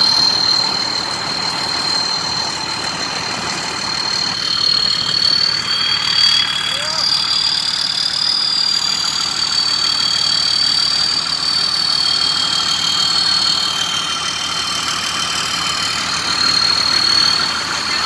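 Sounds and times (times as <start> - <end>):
diesel engine idling: 0.0 - 18.0
high-pitched whine: 0.0 - 18.0.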